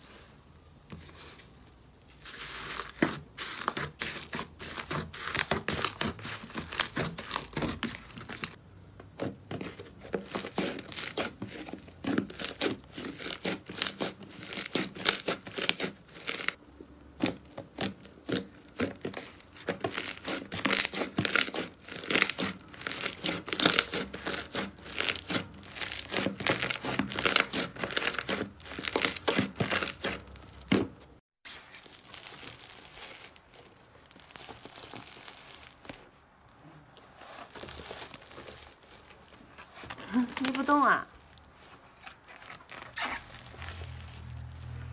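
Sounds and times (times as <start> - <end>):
hands rustling in foam beads: 0.0 - 44.9
slime crackling and popping: 1.9 - 8.6, 9.2 - 39.4, 40.1 - 44.8.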